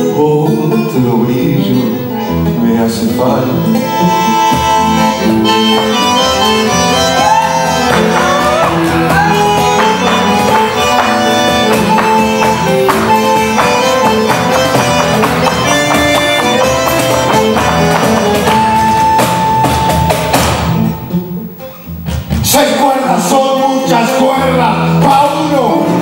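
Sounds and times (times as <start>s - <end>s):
bandoneon melody: 0.0s - 22.3s, 23.1s - 26.0s
band accompaniment: 0.0s - 26.0s.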